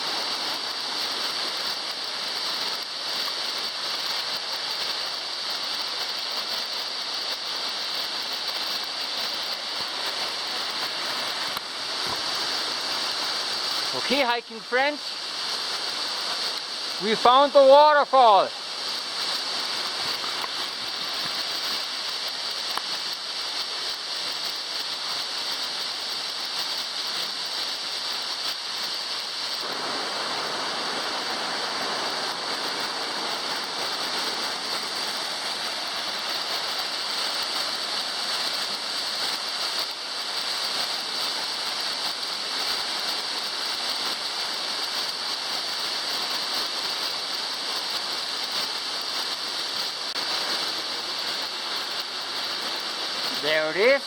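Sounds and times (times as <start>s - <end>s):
waterfall rushing: 0.0s - 23.9s, 29.2s - 46.1s, 49.4s - 54.0s.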